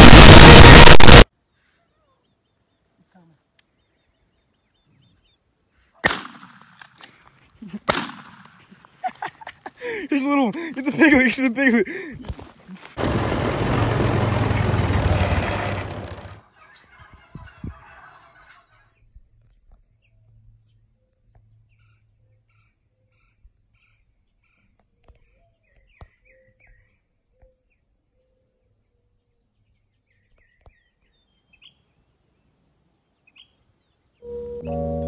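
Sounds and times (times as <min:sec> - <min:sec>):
open-air ambience: 0:00.0 - 0:35.0.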